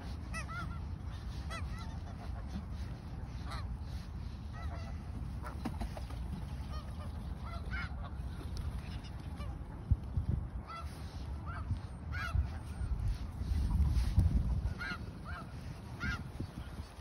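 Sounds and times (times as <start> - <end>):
geese honking: 0.0 - 10.0, 10.6 - 17.0.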